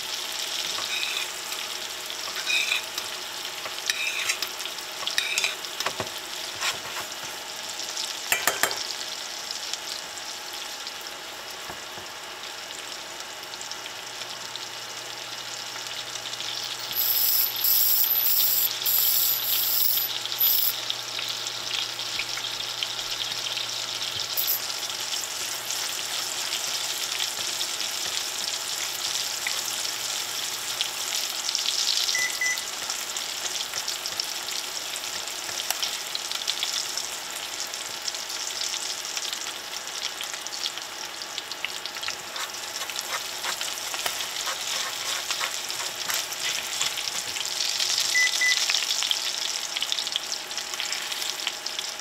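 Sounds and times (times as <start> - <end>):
scallops sizzling in skillet: 0.0 - 52.0.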